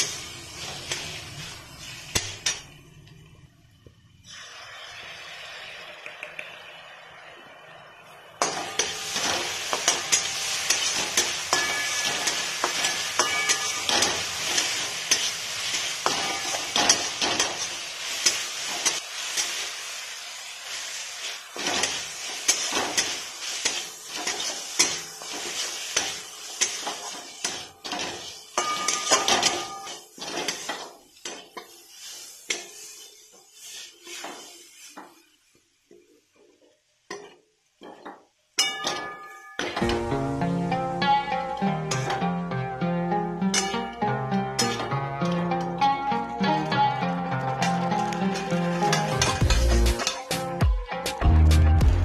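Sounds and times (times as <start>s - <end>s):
metal spatula scraping wok: 0.0s - 2.9s, 8.3s - 35.4s, 38.6s - 50.6s
food sizzling in a wok: 0.0s - 52.0s.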